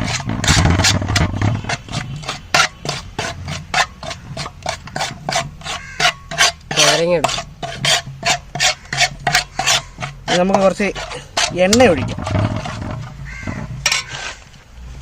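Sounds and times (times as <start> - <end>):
paste scraped round a bowl: 0.0 - 14.6.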